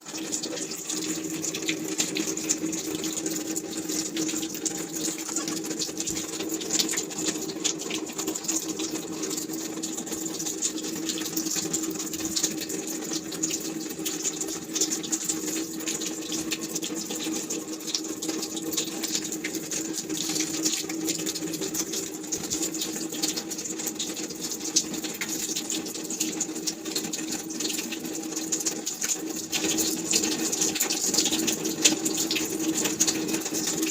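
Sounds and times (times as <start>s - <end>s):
water running and splashing: 0.0s - 33.9s.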